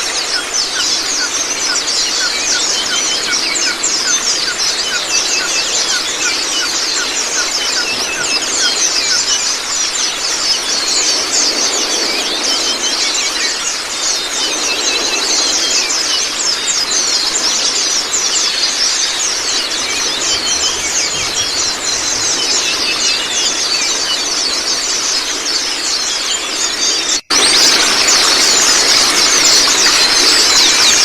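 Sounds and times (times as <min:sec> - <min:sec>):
birds chirping and twittering: 0:00.0 - 0:31.0
running water: 0:00.0 - 0:31.0.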